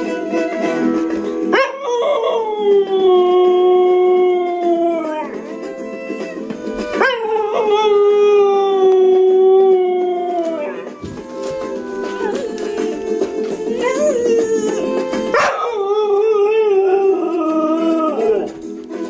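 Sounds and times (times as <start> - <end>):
background music: 0.0 - 19.0
dog howling: 1.5 - 5.6, 6.7 - 18.6.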